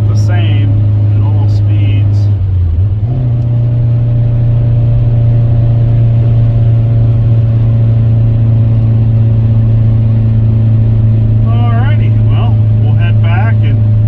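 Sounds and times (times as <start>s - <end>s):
engine and road drone in car: 0.0s - 14.0s.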